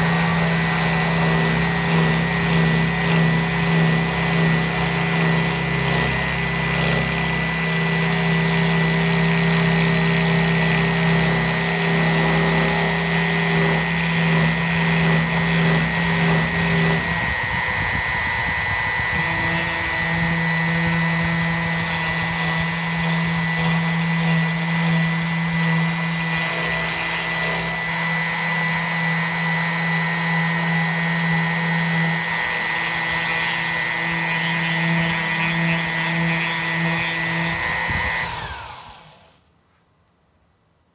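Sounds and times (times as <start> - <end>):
router motor hum and whine: 0.0 - 39.5.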